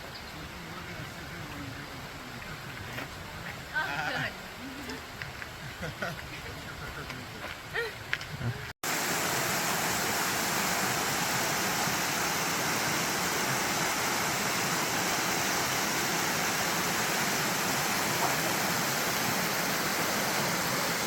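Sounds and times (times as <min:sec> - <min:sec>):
rushing water: 0:00.0 - 0:08.2, 0:08.8 - 0:21.0.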